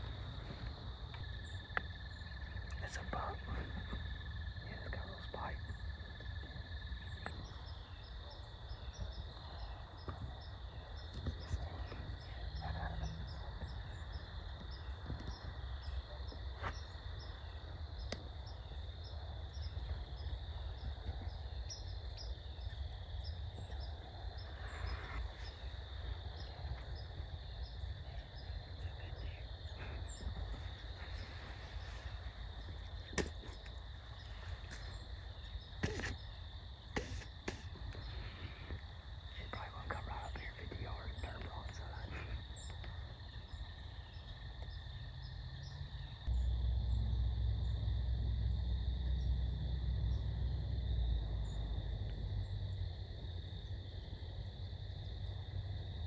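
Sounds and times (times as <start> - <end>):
insects chirping: 0.0 - 56.0
insects trilling: 0.0 - 56.0
low steady rumble: 0.0 - 56.0.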